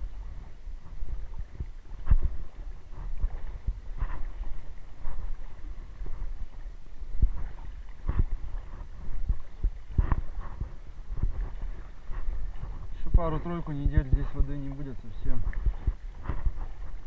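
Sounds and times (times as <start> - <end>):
footsteps wading through water: 0.0 - 17.0.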